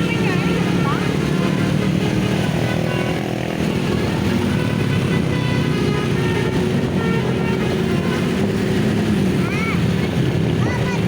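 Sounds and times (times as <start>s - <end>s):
multi-tone musical horn: 0.0s - 9.0s
bus engine running: 0.0s - 11.0s.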